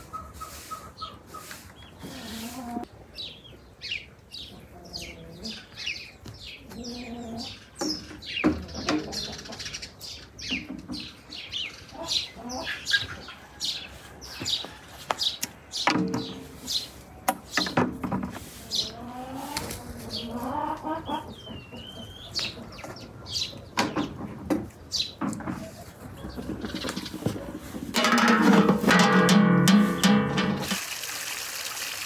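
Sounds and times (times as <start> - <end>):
small songbirds chirping: 0.1 - 17.8, 18.6 - 27.3.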